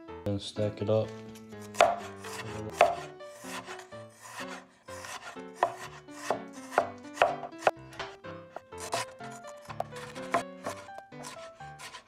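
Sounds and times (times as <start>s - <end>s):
cleaver chopping on wooden board: 1.6s - 12.0s.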